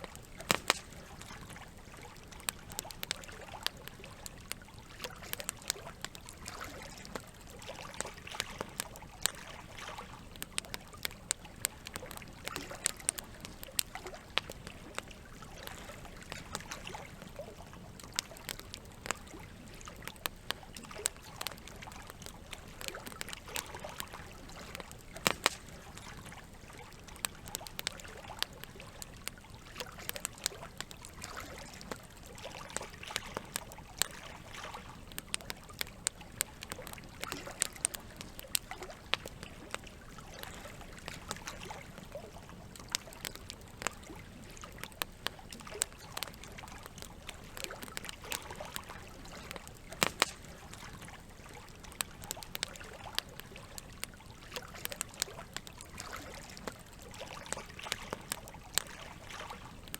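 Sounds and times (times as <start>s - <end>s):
campfire crackling and popping: 0.0s - 59.9s
running water trickling: 0.0s - 59.9s.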